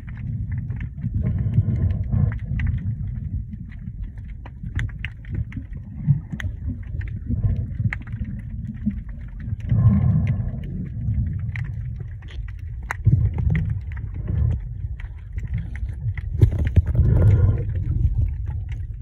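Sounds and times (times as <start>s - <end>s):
clicks and crackles: 0.0s - 19.0s
muffled underwater rumble: 0.0s - 19.0s.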